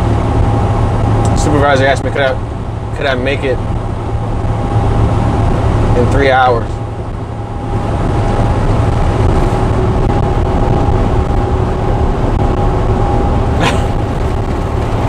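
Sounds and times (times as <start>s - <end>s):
faint whine: 0.0s - 15.0s
truck engine and road drone: 0.0s - 15.0s.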